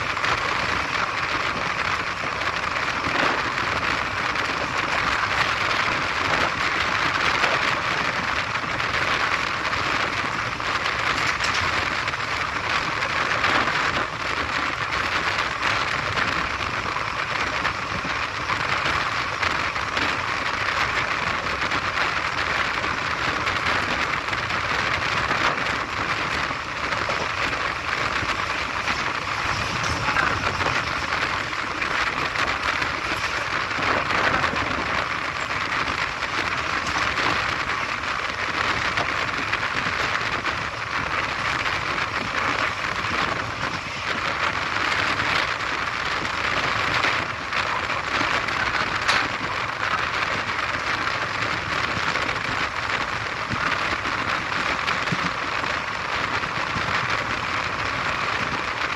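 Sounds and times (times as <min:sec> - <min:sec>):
train wheels on rails: 0:00.0 - 0:58.9.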